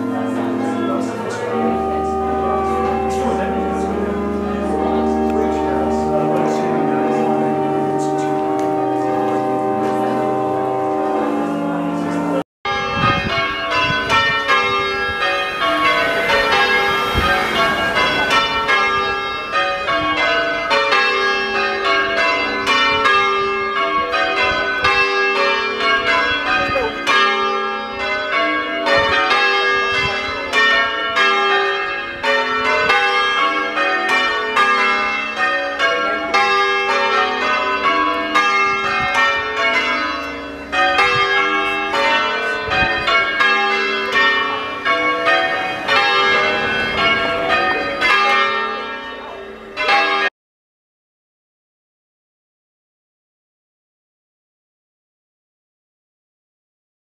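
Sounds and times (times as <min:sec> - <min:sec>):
church bells ringing: 0:00.0 - 0:50.3.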